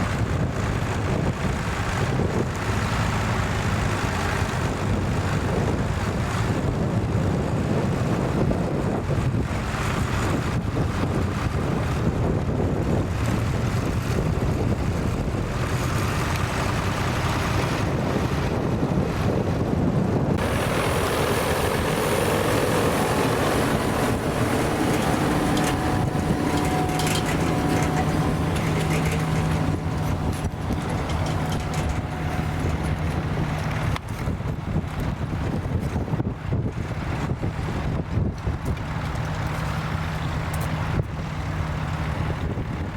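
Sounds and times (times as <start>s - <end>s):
tractor engine running: 0.0s - 42.9s
wind buffeting microphone: 0.0s - 42.9s.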